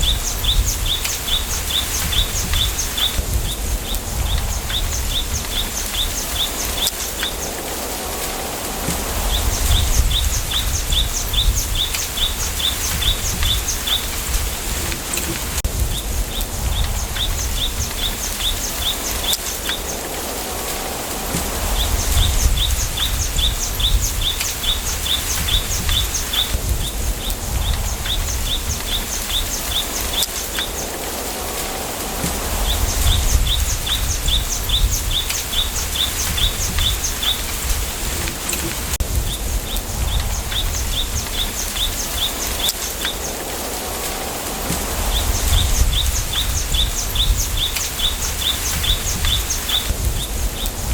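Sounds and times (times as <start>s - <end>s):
wind rustling through bamboo: 0.0s - 50.9s.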